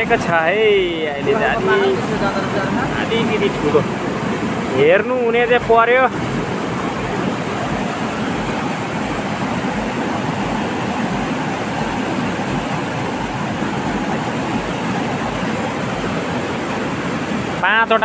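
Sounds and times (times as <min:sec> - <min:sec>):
river rushing over stones: 0:00.0 - 0:18.0.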